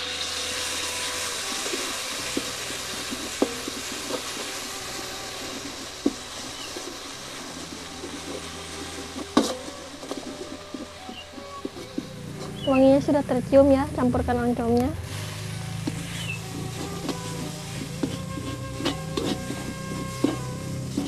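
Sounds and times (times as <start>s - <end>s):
spice paste sizzling in oil: 0.0s - 21.0s
metal spatula scraping and tapping: 0.5s - 12.7s, 15.8s - 21.0s.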